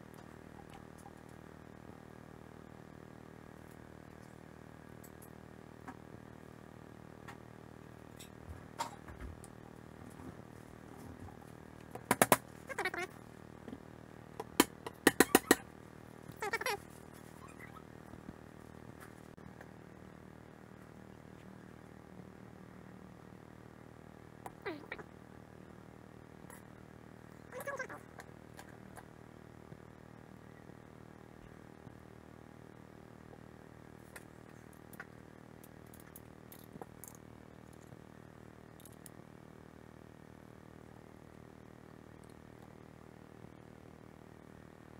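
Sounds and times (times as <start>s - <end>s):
low background hum: 0.0s - 44.9s.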